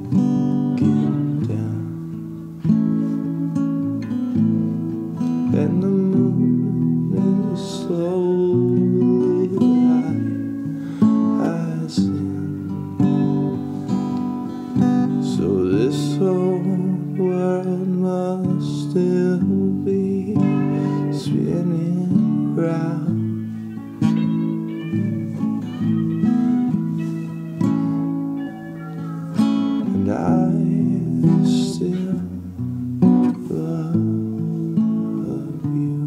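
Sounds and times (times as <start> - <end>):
acoustic guitar song: 0.0 - 36.0.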